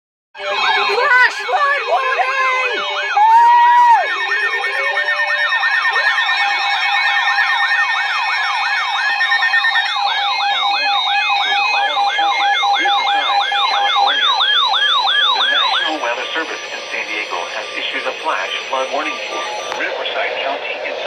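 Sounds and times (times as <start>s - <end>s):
rapid sweeping siren tone: 0.4s - 21.0s
slower higher siren sweep: 0.4s - 21.0s
steady alert tones: 0.4s - 21.0s.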